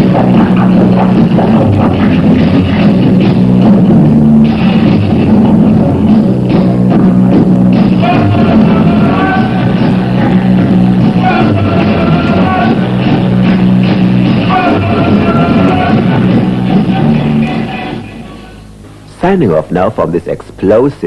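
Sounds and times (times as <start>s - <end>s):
reggae music with heavy bass: 0.0s - 19.1s.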